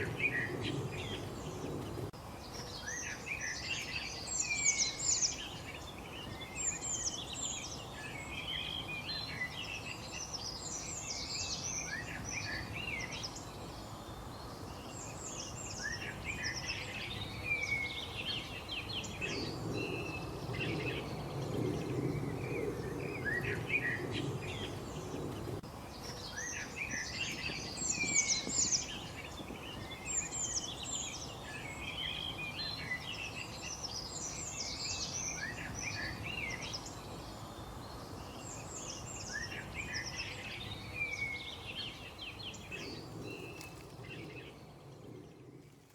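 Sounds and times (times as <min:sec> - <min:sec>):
small birds chirping: 0:00.0 - 0:45.9
steady background hiss: 0:00.0 - 0:45.9.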